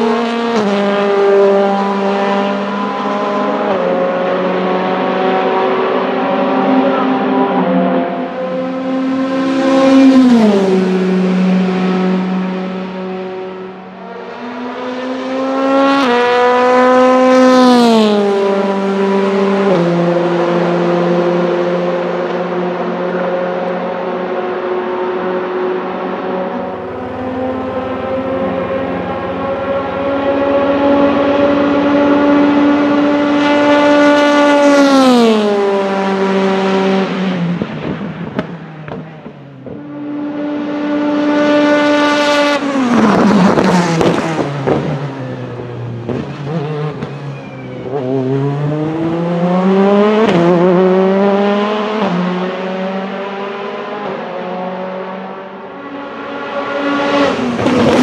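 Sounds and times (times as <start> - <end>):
race car accelerating through gears: 0.0 - 58.0
race car engine at high revs: 0.0 - 58.0.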